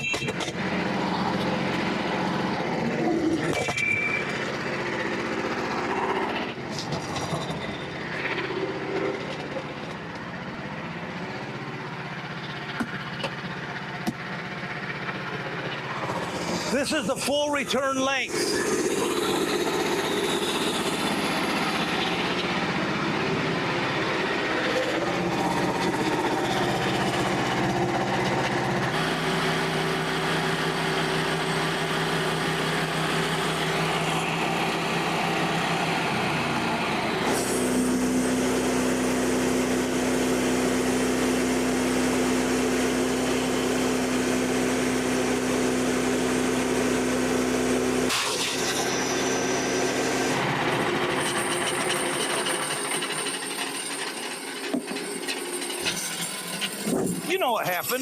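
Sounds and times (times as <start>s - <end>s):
sawmill gas engine running: 0.0s - 58.0s.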